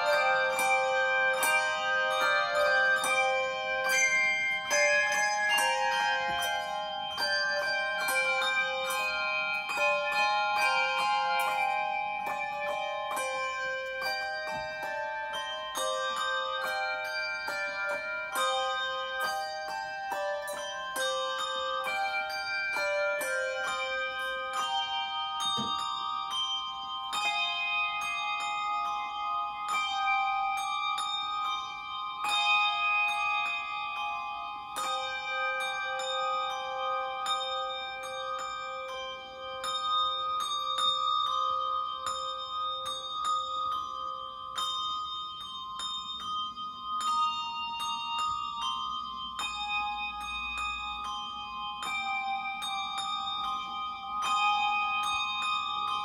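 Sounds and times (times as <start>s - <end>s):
handbells ringing: 0.0s - 56.0s.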